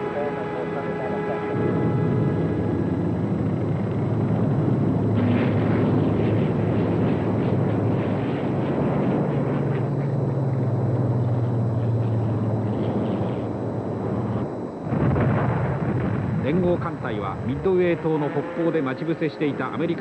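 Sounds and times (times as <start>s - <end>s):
low steady hum: 0.0s - 20.0s
propeller aircraft droning: 0.0s - 20.0s.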